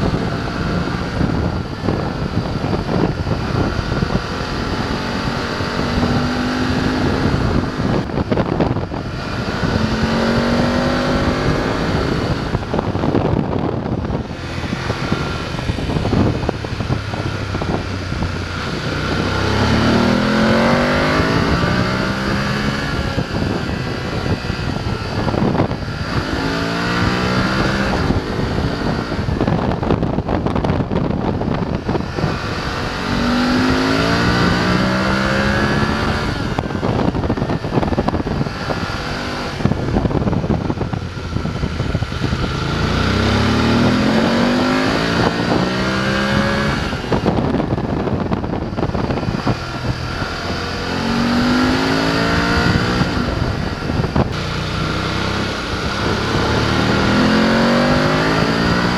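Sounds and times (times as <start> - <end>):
motorcycle engine accelerating: 0.0 - 58.9
wind noise: 0.0 - 58.9.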